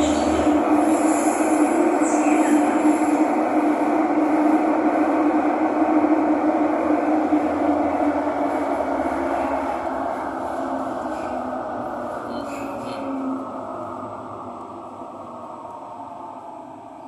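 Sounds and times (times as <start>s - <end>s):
train rumbling from inside car: 0.0s - 17.0s.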